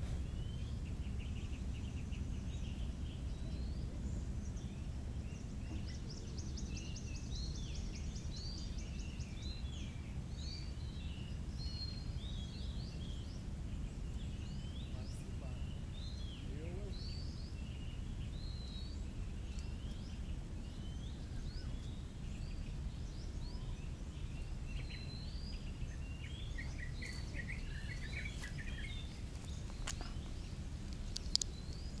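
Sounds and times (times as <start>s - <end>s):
low background rumble: 0.0s - 32.0s
small birds chirping: 0.0s - 32.0s.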